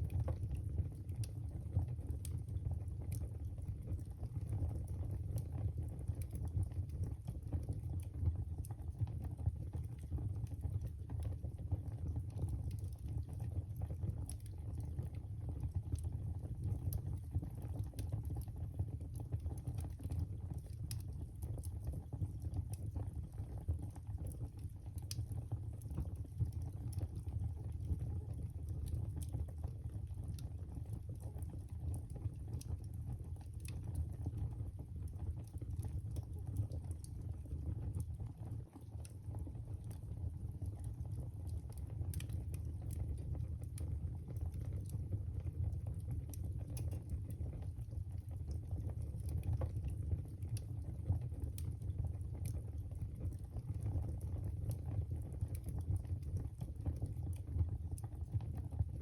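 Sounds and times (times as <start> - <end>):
wood fire burning: 0.0 - 59.0.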